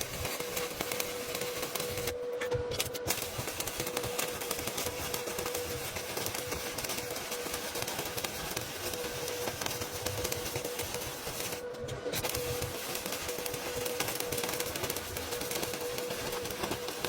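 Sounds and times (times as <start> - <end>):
welding arc crackling: 0.0 - 2.2, 2.8 - 17.0.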